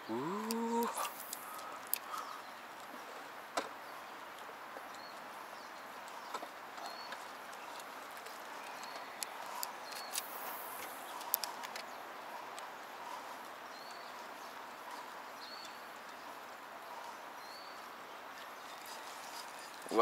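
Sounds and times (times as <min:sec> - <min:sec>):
steady soft hiss: 0:00.0 - 0:20.0.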